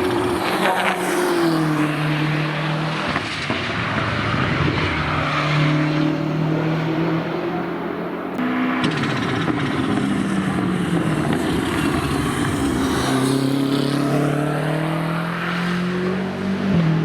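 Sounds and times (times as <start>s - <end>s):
race car engine at speed: 0.0s - 17.0s.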